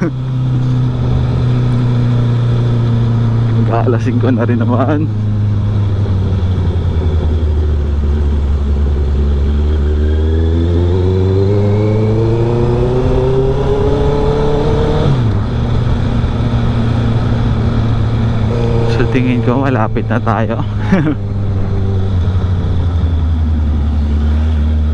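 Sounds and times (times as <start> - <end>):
motorcycle exhaust accelerating: 0.0 - 24.9.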